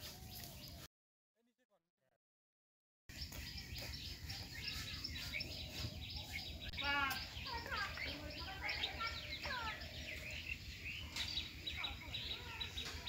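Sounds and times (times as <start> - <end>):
birds chirping: 0.0 - 0.9, 3.1 - 13.0
outdoor background noise: 0.0 - 0.9, 3.1 - 13.0.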